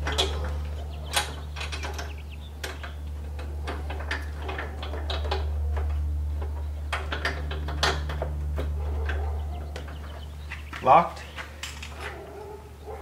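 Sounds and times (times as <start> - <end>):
metal clicks and rattles: 0.0 - 12.4
steady low hum: 0.0 - 13.0.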